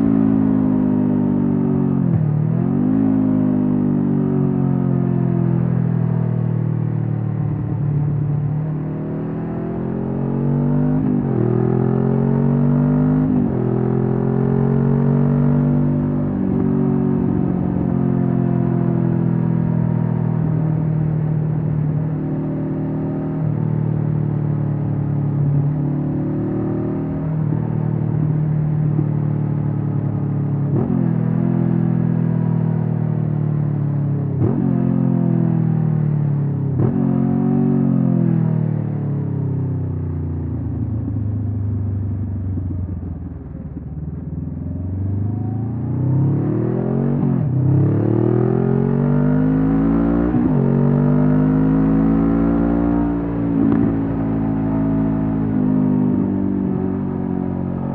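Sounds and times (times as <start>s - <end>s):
motorcycle engine revving: 6.4s - 57.9s.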